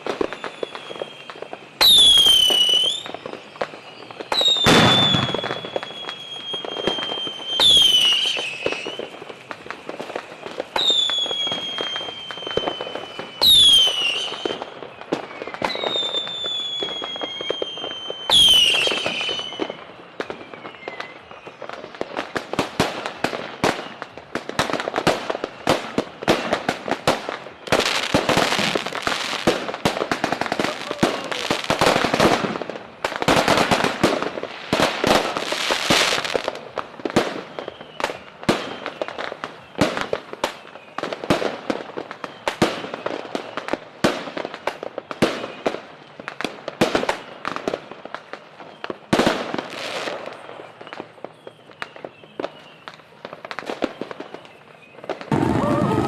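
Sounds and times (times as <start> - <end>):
aerial fireworks bangs and crackling: 0.0 - 56.0.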